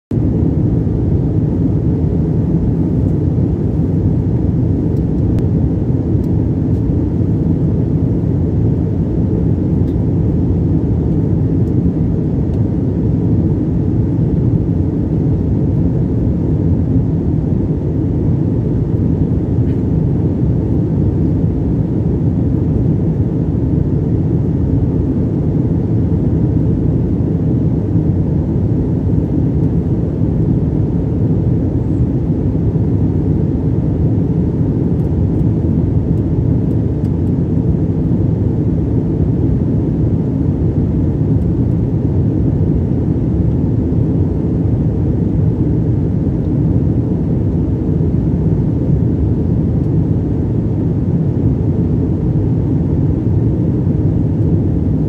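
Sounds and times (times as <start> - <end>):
jet cabin engine and airflow rumble: 0.1 - 55.0.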